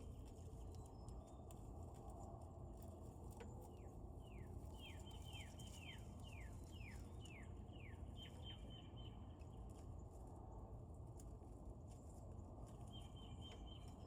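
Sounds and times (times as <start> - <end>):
faint background rumble: 0.0 - 14.0.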